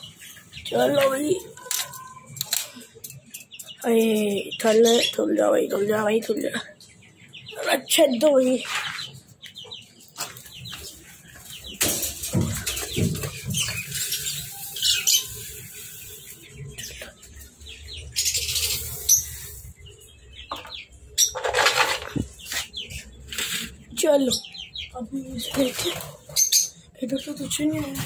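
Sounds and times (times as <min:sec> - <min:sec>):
lovebirds chirping: 0:00.0 - 0:28.0.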